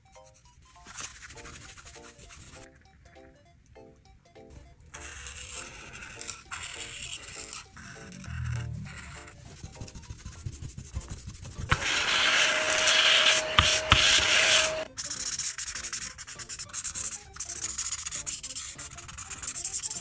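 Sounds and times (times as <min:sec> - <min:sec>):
marker tip scratching on paper: 0:00.1 - 0:02.7, 0:04.9 - 0:20.0.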